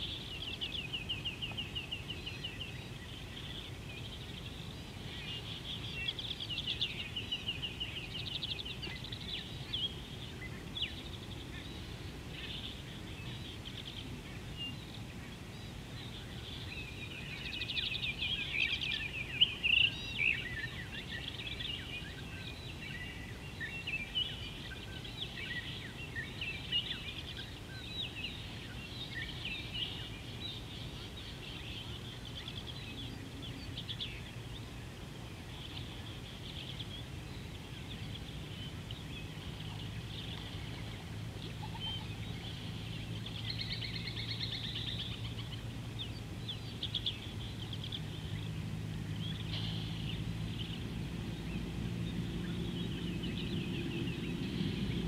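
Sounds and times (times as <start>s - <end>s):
low steady hum: 0.0s - 55.0s
outdoor background noise: 0.0s - 55.0s
small birds chirping: 0.0s - 55.0s.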